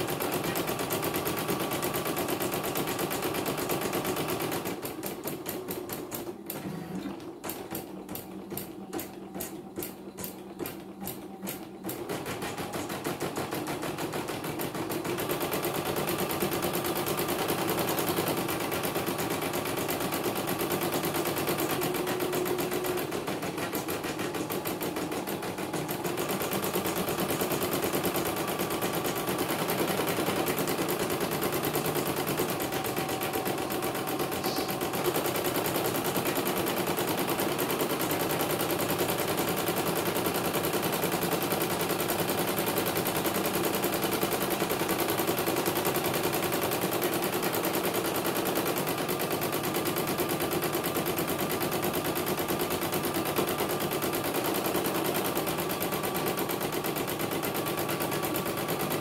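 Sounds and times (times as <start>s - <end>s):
embroidery machine stitching: 0.0s - 59.0s.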